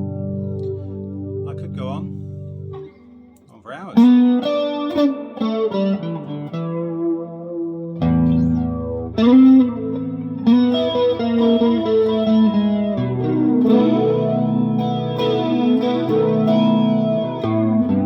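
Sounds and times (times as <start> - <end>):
electric guitar chords ringing: 0.0 - 18.0.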